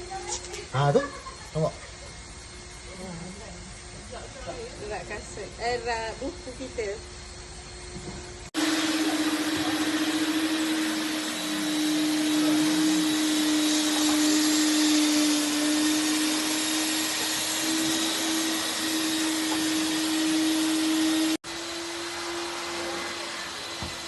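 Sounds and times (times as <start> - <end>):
vacuum cleaner running: 2.8 - 24.0.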